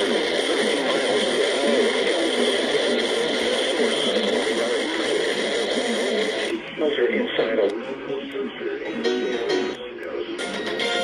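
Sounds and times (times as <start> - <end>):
indistinct radio voice: 0.0 - 10.5
radio static hiss: 0.0 - 11.0.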